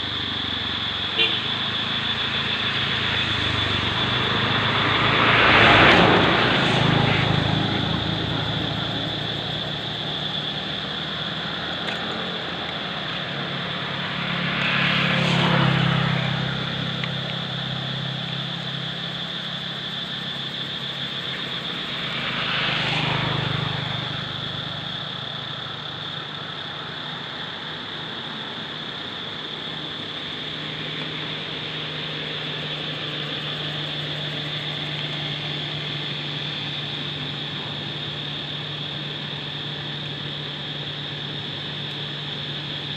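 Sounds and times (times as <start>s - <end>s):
vehicles passing by: 0.0s - 42.9s.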